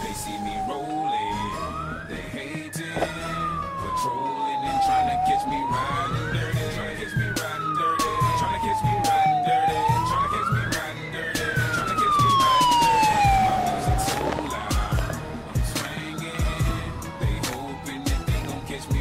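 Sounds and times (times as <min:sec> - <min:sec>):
fire engine siren wailing: 0:00.0 - 0:19.0
hip-hop music with beat: 0:00.0 - 0:19.0.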